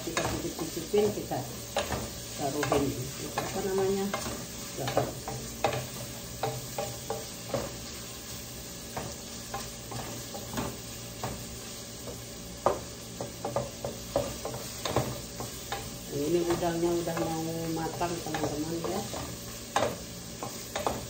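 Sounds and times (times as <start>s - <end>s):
shrimp sizzling: 0.0s - 21.0s.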